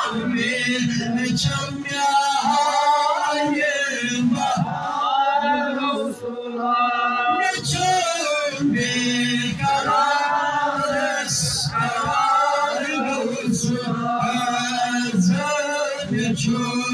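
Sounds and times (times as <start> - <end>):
man chanting into a microphone: 0.0 - 16.9.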